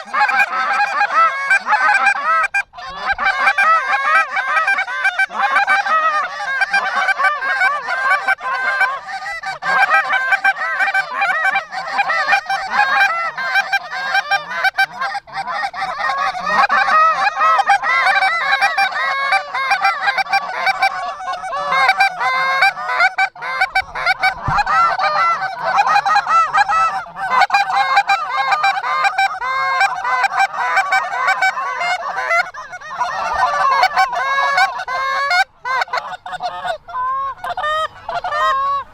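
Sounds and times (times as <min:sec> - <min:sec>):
geese honking: 0:00.0 - 0:38.9.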